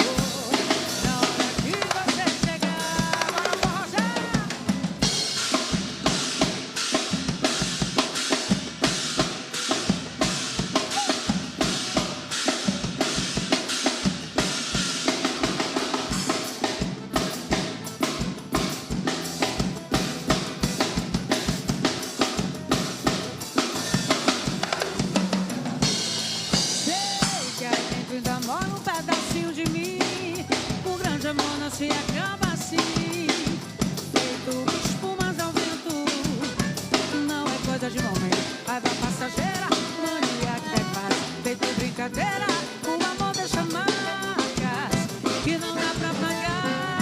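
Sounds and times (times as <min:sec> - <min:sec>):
band playing instrumental music: 0:00.0 - 0:47.0
drums keeping a driving beat: 0:00.0 - 0:47.0.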